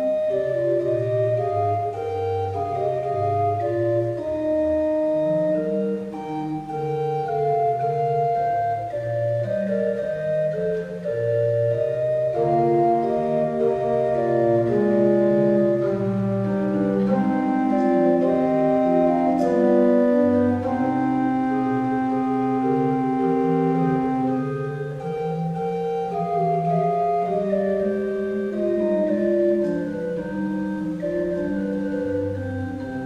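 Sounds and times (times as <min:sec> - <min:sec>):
church organ playing chords: 0:00.0 - 0:33.0.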